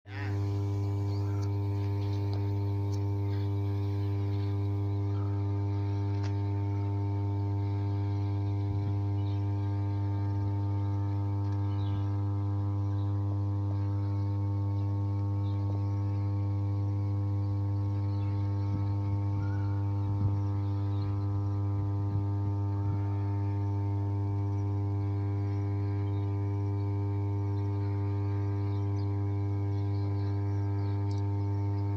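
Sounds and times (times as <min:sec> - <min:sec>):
power transformer humming: 0:00.0 - 0:31.9.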